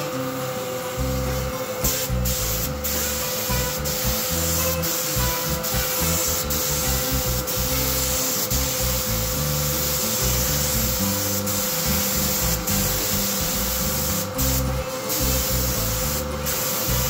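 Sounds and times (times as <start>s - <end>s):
paint spray gun hissing: 1.0s - 17.0s.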